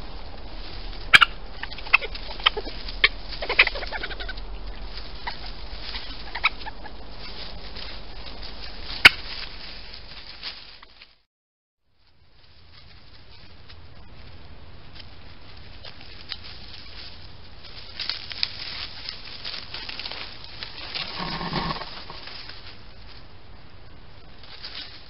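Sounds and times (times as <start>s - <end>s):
animal rustling through dry leaves: 0.0s - 11.3s, 11.9s - 25.0s.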